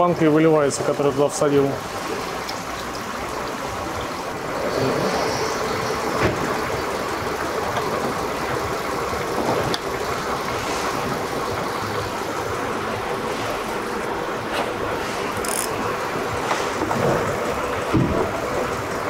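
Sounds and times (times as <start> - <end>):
car engine idling: 0.0 - 19.0
fluid trickling in a stream: 0.0 - 19.0.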